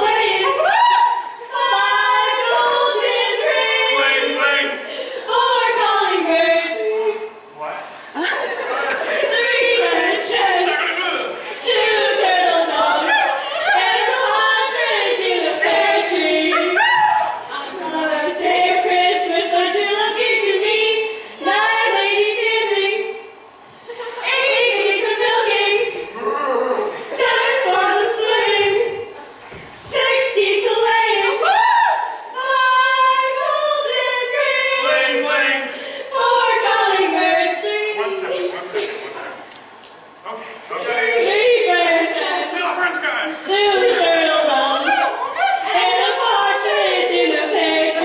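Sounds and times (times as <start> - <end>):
group of people singing: 0.0 - 7.4, 8.2 - 39.4, 40.5 - 48.0.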